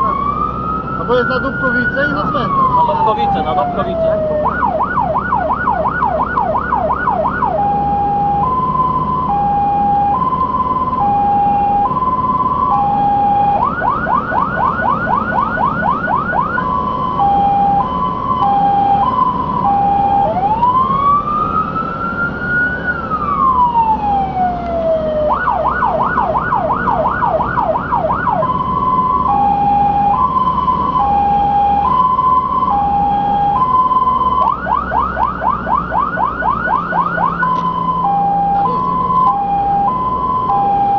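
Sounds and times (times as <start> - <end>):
fire engine siren: 0.0 - 40.9.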